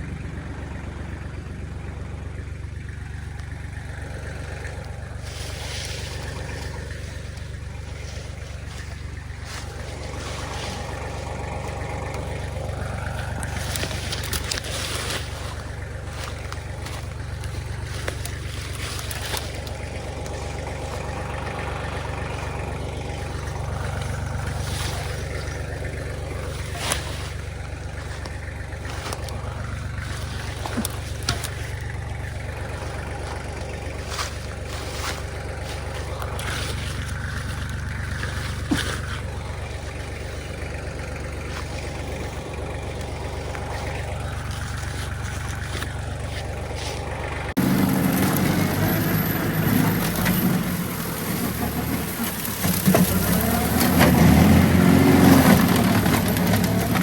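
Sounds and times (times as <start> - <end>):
machine engine running: 0.0 - 57.0.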